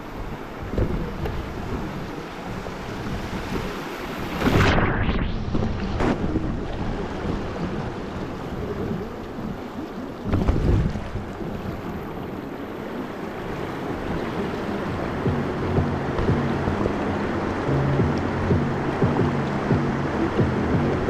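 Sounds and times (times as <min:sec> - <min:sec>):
river water rushing and splashing: 0:00.0 - 0:21.0
wind buffeting microphone: 0:00.0 - 0:21.0.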